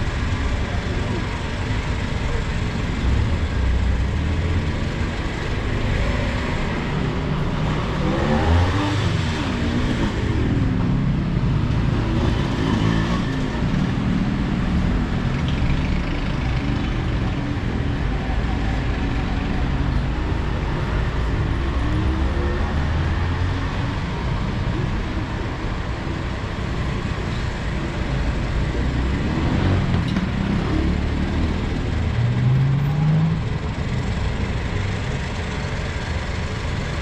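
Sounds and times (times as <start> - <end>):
vehicle engines passing: 0.0 - 37.0.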